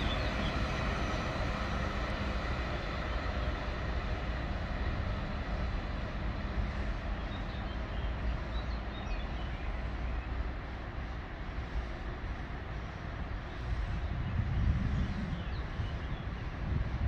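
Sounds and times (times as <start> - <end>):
train rumbling and rolling: 0.0 - 17.0.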